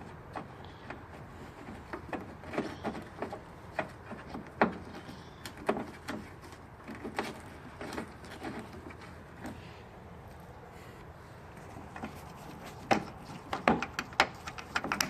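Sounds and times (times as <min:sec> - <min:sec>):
hand tools clicking and knocking: 0:00.0 - 0:09.6, 0:11.6 - 0:15.0.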